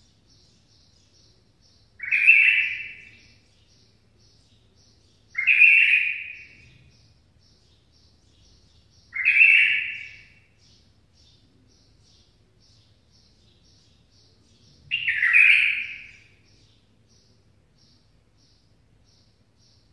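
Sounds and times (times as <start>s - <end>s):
songbird singing: 0.0s - 19.9s.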